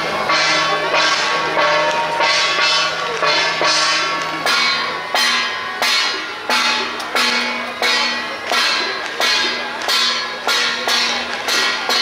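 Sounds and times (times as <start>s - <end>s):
gong strokes ringing: 0.0s - 12.0s.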